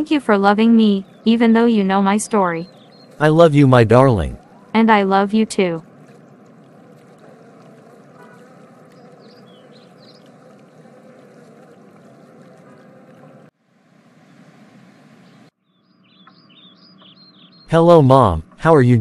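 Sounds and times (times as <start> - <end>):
flowing water: 0.0 - 15.3
bird chirps: 0.5 - 13.4, 14.3 - 18.5.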